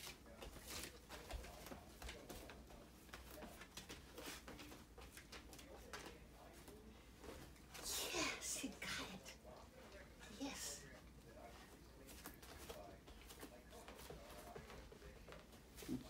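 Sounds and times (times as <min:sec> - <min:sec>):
soft scuffs on floor: 0:00.0 - 0:07.9, 0:10.9 - 0:16.0.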